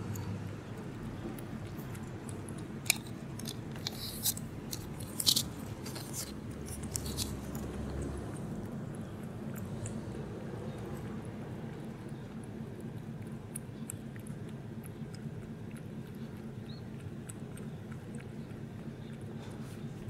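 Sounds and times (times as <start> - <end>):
cat lapping milk: 0.0 - 20.0
low outdoor rumble: 0.0 - 20.0.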